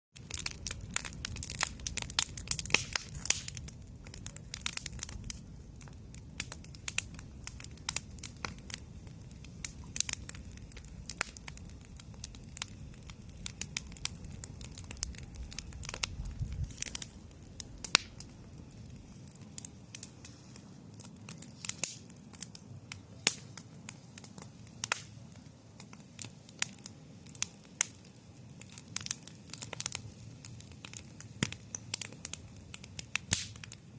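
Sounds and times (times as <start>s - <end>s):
campfire crackling and popping: 0.2s - 33.9s.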